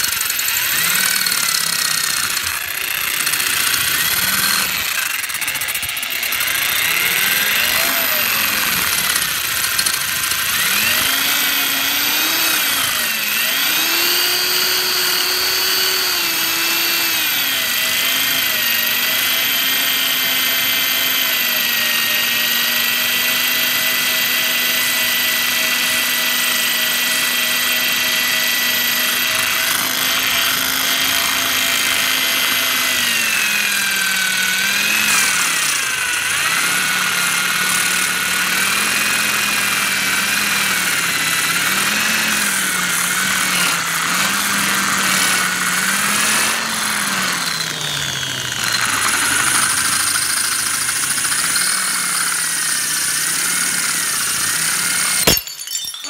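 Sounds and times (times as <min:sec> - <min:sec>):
electric drill grinding into glass: 0:00.0 - 0:56.0.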